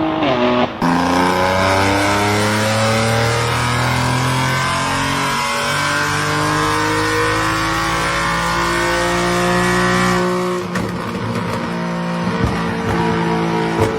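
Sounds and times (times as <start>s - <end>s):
car engine accelerating hard: 0.0s - 13.9s.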